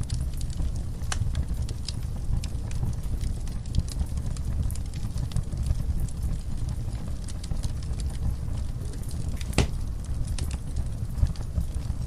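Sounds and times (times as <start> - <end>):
low rumble of flame: 0.0 - 12.0
wood fire crackling and popping: 0.0 - 12.0.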